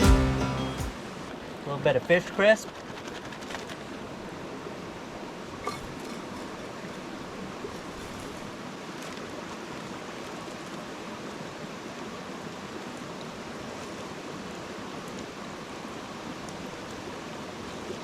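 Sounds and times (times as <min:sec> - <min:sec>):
creek flowing: 0:00.0 - 0:18.0.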